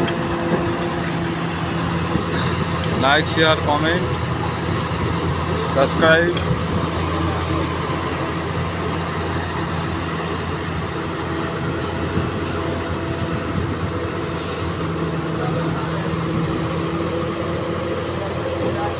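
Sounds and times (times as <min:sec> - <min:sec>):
excavator diesel engine droning: 0:00.0 - 0:18.9.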